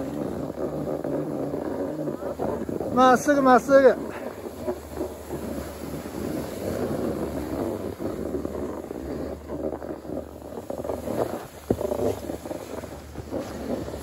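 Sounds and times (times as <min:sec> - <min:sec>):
snowboards scraping over snow: 0:00.0 - 0:14.0
wind on microphone: 0:00.0 - 0:14.0.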